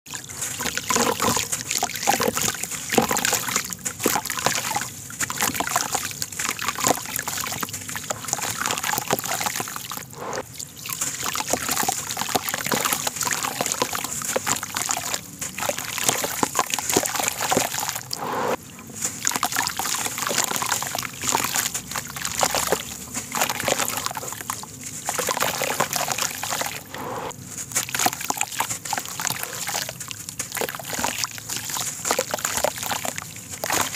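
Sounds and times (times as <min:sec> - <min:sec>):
water sloshing and splashing: 0:00.1 - 0:33.9.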